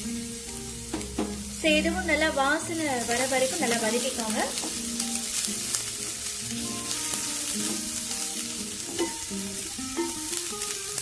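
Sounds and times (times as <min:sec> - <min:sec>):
onions sizzling in hot oil: 0:00.0 - 0:11.0
soft background music: 0:00.0 - 0:11.0.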